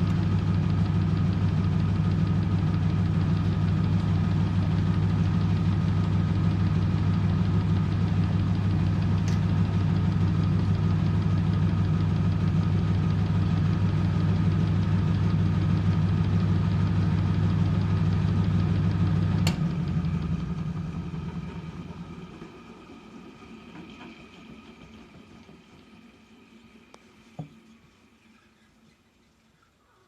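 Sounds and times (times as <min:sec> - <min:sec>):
washing machine spinning: 0:00.0 - 0:28.4.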